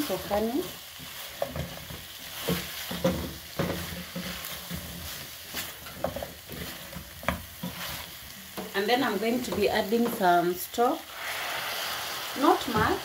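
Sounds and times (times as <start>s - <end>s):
sauce sizzling in frying pan: 0.0s - 13.0s
spatula knocking and scraping pan: 0.3s - 10.5s, 12.5s - 13.0s.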